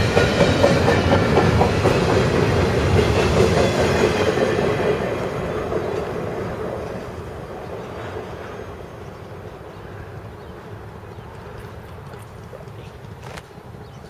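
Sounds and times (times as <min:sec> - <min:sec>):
train wheels rumbling on rails: 0:00.0 - 0:13.7.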